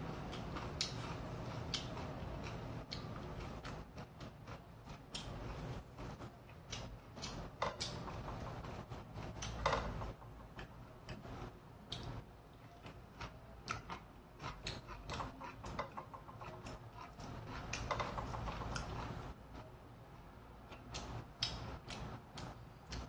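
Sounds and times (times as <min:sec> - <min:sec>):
eating sounds: 0:00.1 - 0:19.4.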